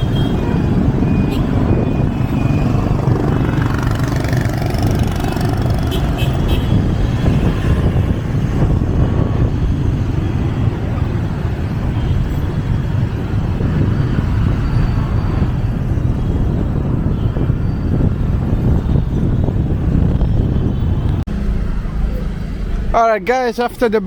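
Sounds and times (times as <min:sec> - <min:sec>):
wind buffeting microphone: 0:00.0 - 0:22.9
street traffic rumble: 0:00.0 - 0:24.0.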